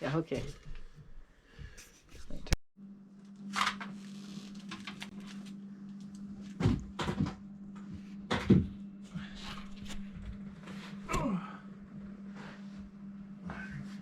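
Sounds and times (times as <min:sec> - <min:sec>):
steady low hum: 0:00.3 - 0:14.0.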